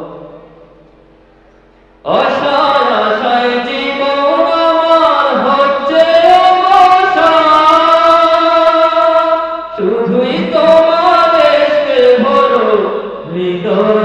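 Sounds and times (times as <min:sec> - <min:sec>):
man singing into a microphone: 0:02.0 - 0:14.0.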